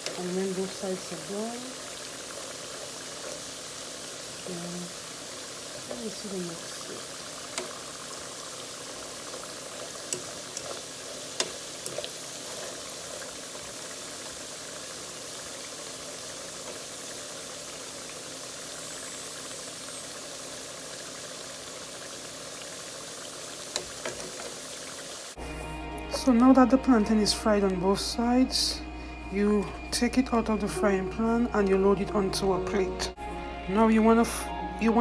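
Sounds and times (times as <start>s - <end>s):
plantain sizzling in oil: 0.0s - 35.0s.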